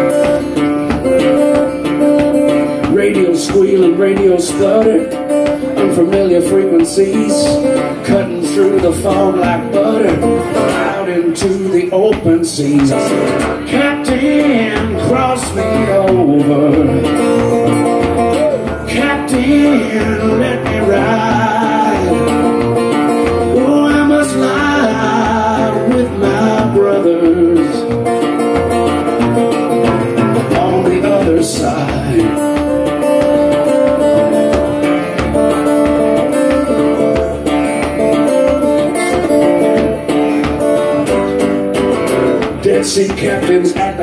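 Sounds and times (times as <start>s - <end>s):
acoustic guitar blues: 0.0s - 44.0s.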